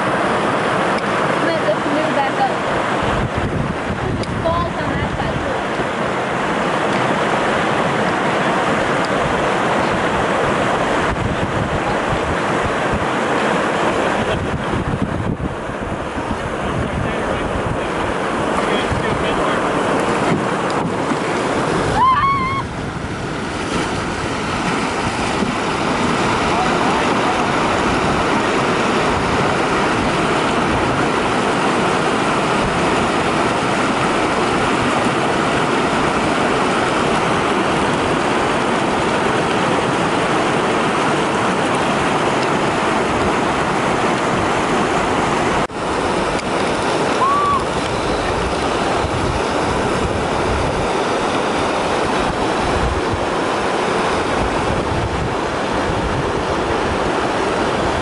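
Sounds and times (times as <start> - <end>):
river rapids rushing: 0.0 - 58.0.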